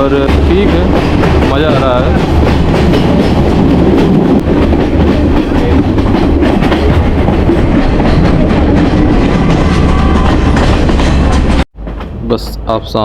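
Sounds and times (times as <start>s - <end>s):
train carriage rumbling on rails: 0.0s - 13.0s.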